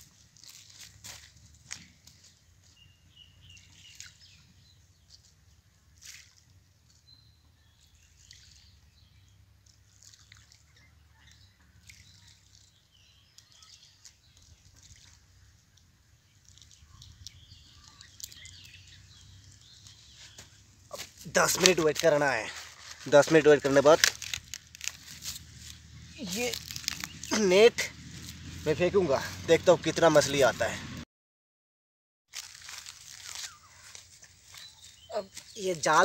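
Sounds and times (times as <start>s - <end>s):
small birds chirping: 0.4s - 28.8s, 32.7s - 36.0s.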